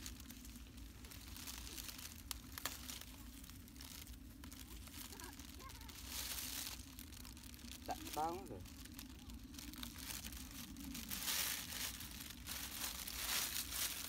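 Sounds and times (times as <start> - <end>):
leaves rustling: 0.0 - 14.0.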